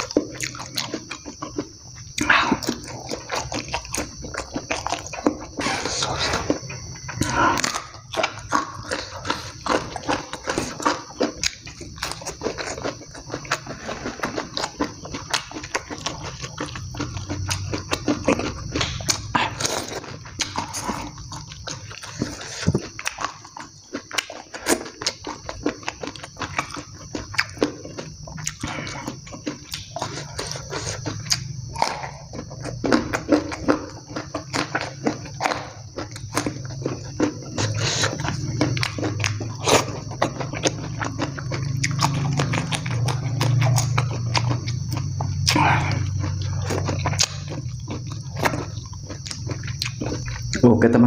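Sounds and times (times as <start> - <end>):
wet chewing and lip smacks: 0.0 - 50.6.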